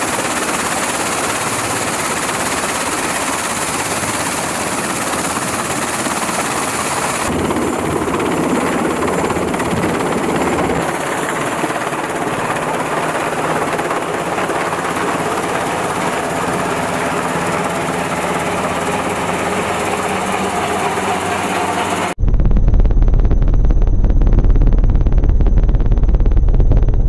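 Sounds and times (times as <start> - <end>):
helicopter hovering and flying off: 0.0 - 27.0.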